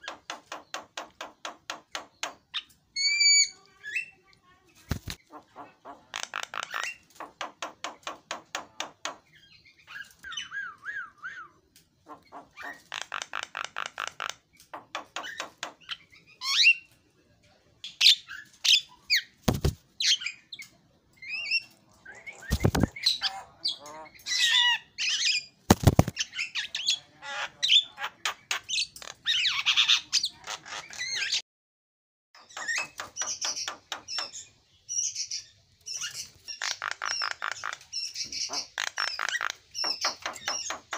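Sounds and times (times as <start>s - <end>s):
bird singing varied song: 5.2s - 17.0s, 17.8s - 31.4s, 32.4s - 40.9s.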